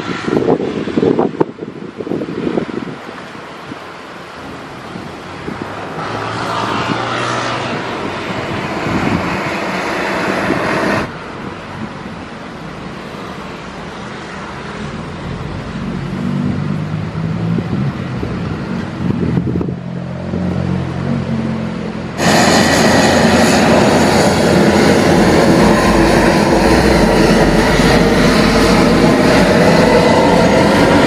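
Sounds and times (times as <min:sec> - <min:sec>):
rush of noise: 0:00.0 - 0:31.0
turboprop engines humming: 0:00.0 - 0:31.0.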